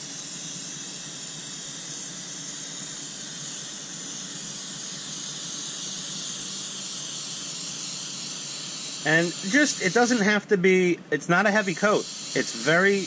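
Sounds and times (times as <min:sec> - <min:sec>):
airbrush hissing: 0:00.0 - 0:10.4, 0:11.4 - 0:13.0
air compressor humming: 0:00.0 - 0:13.0.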